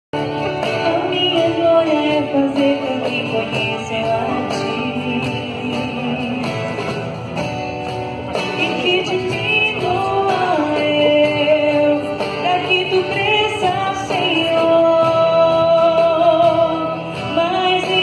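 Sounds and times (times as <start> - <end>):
woman singing into a microphone: 0.2 - 7.1, 8.4 - 18.0
acoustic guitar: 0.2 - 18.0
cajon drum: 0.2 - 18.0.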